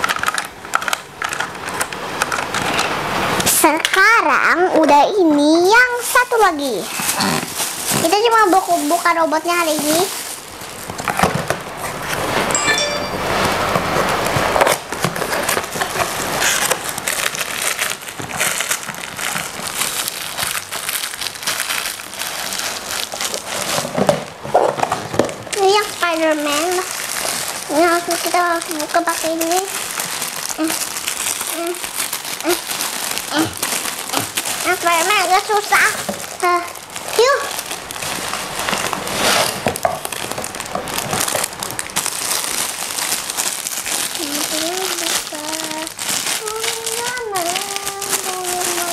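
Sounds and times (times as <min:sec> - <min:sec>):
plastic packaging crinkling: 0:03.4 - 0:13.0, 0:13.6 - 0:48.9.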